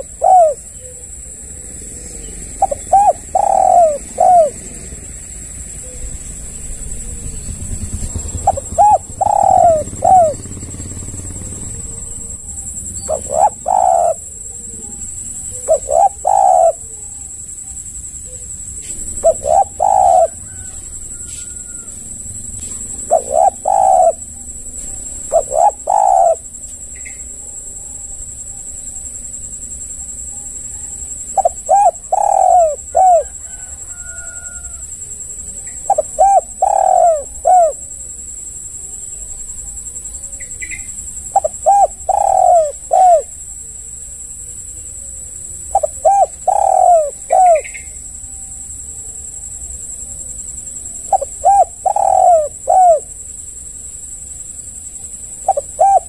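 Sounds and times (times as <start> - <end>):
dove cooing: 0.0 - 29.0, 30.3 - 56.0
steady high-pitched drone: 0.0 - 56.0.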